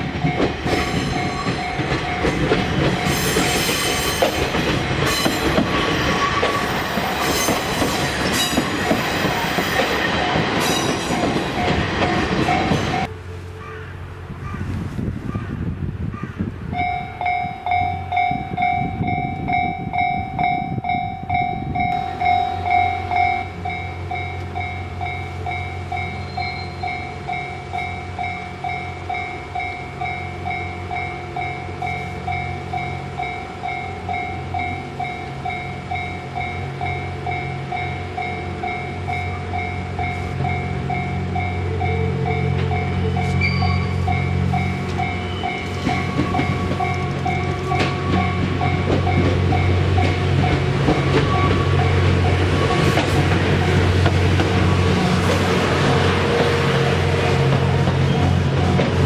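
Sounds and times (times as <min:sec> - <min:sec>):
passing train rumble: 0:00.0 - 0:59.0.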